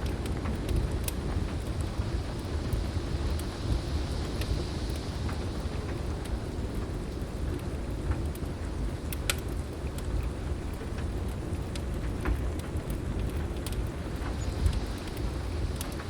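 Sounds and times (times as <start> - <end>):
heavy rain: 0.0 - 16.0
low storm rumble: 0.0 - 16.0
wood fire popping and crackling: 0.0 - 16.0.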